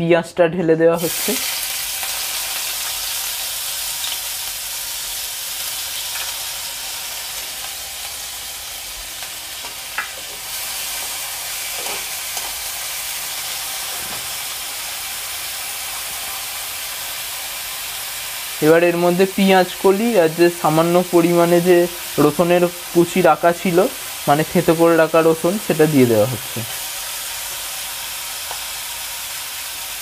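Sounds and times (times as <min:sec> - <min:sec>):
onions sizzling in oil: 0:01.0 - 0:30.0.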